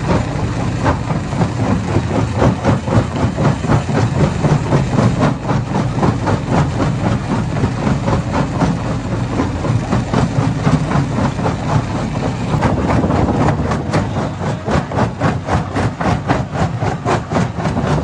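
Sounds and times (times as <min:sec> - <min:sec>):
low machine rumble: 0:00.0 - 0:18.0.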